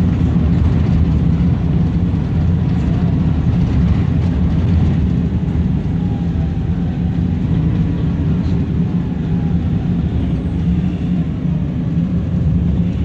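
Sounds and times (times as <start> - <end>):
bus diesel engine rumble: 0.0 - 13.0
road noise: 0.0 - 13.0.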